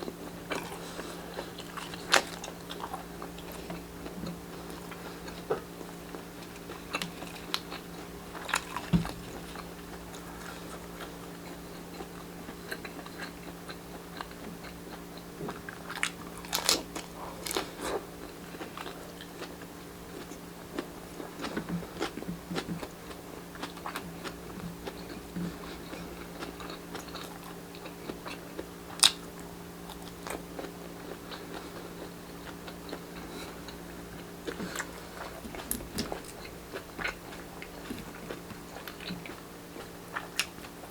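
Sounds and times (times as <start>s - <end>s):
chewing and crunching food: 0.0s - 40.9s
steady low hum: 0.0s - 40.9s.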